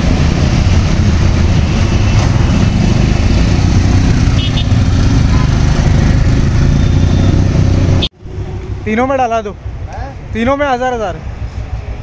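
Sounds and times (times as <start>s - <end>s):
motorcycle engines droning: 0.0s - 10.4s.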